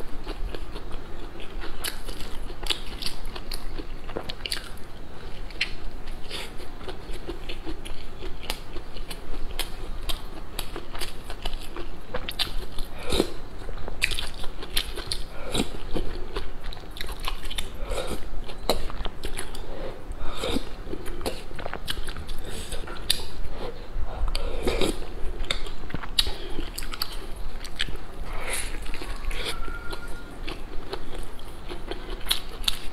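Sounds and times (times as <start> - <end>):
person chewing and smacking lips: 0.0 - 32.9.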